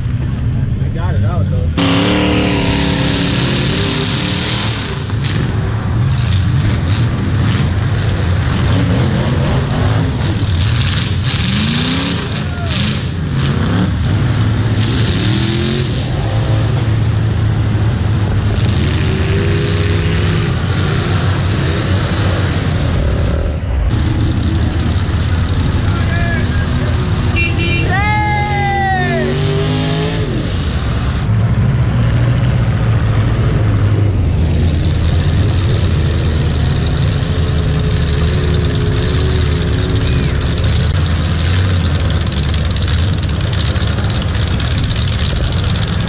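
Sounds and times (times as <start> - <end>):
vehicle engine revving: 1.3 - 28.0, 28.7 - 46.0.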